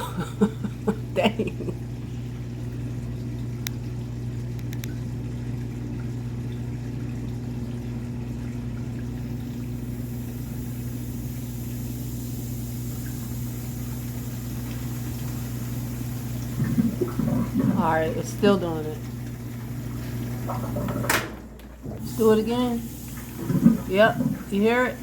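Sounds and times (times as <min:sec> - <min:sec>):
drain pump humming: 0:00.0 - 0:25.0.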